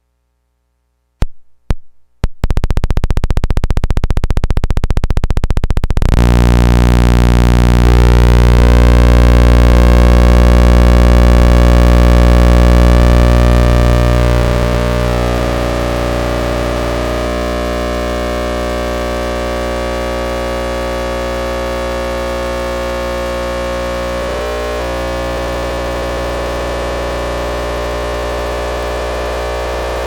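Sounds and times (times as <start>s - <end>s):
oscillator buzzing drone: 2.4s - 30.0s.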